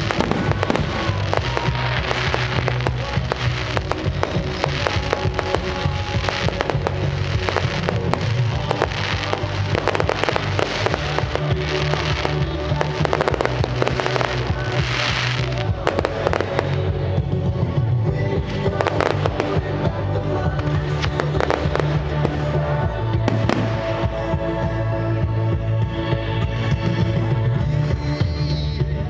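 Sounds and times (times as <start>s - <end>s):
fireworks crackling hiss: 0.0s - 17.5s, 18.3s - 24.9s
fireworks cracking and banging: 0.0s - 24.9s
music playing: 0.0s - 29.0s.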